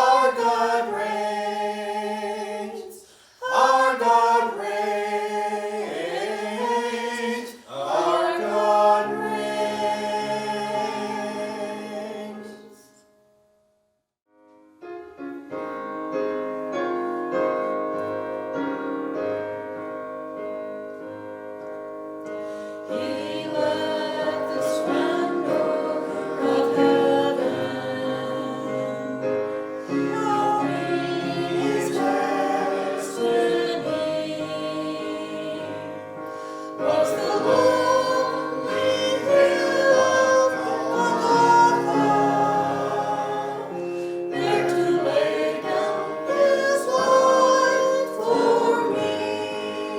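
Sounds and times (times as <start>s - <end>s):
gospel voices singing: 0.0s - 13.0s, 22.4s - 49.9s
held gospel chords: 0.0s - 13.0s, 15.4s - 49.9s.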